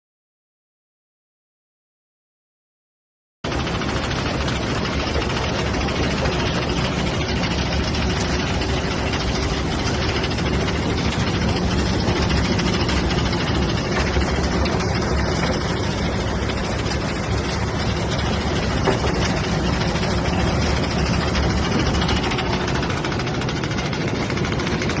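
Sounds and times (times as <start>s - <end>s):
engine running: 3.5s - 25.0s.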